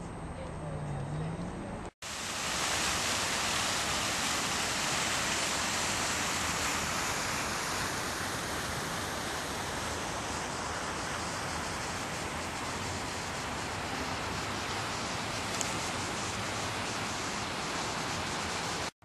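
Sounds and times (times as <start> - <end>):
fountain water splashing: 2.0 - 18.9.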